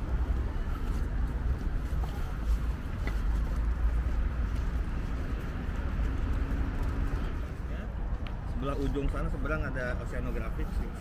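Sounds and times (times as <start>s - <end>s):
wind rumbling on microphone: 0.0s - 9.5s.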